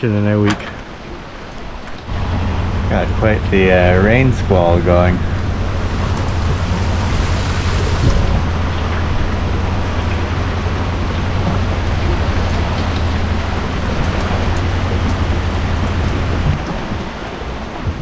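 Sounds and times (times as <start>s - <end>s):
heavy rain pouring: 0.0s - 18.0s
low rumble: 1.8s - 17.1s.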